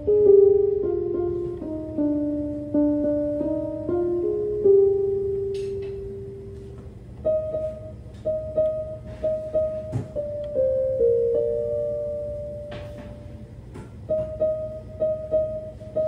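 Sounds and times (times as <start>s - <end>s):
electronic keyboard melody: 0.0s - 16.0s.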